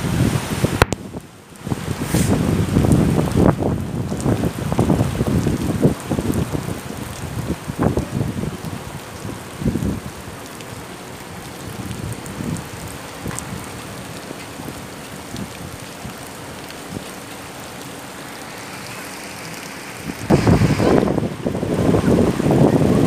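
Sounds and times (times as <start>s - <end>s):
wind gust buffeting microphone: 0.0s - 10.2s, 11.6s - 23.0s
rain falling steadily: 0.0s - 23.0s.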